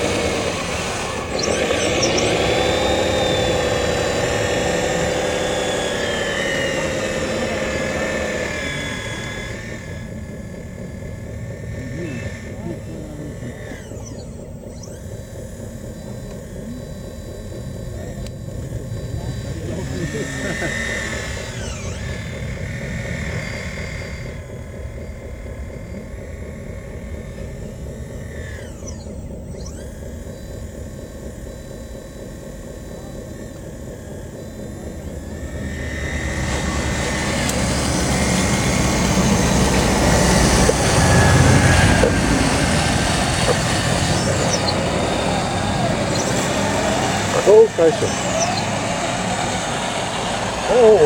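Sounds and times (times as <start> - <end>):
hydraulic pump whining: 0.0 - 51.0.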